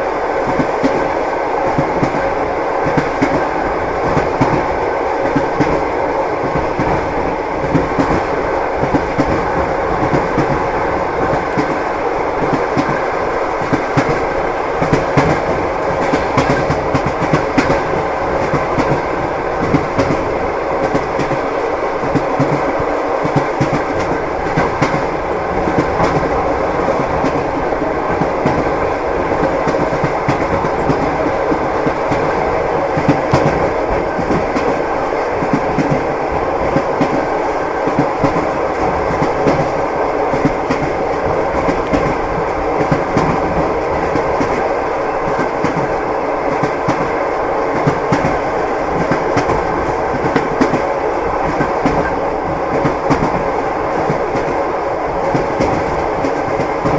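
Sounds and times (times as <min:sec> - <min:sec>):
train wheels clattering over rails: 0:00.0 - 0:56.9.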